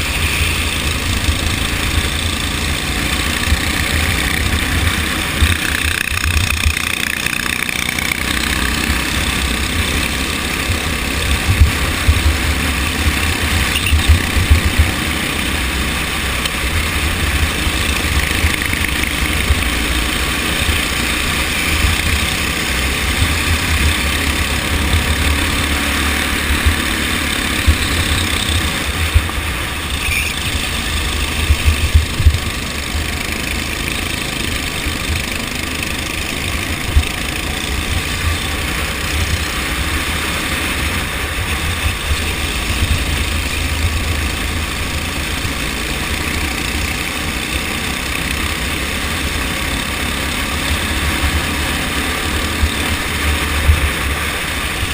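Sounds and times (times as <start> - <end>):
kart engine rumbling: 0.0 - 54.9.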